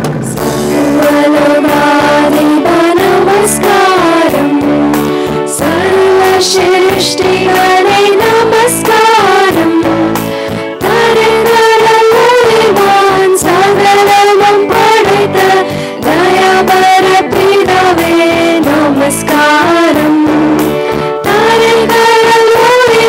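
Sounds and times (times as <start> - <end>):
instrumental accompaniment: 0.0 - 23.0
girls singing together: 0.7 - 4.9, 5.5 - 10.1, 10.8 - 20.6, 21.3 - 23.0.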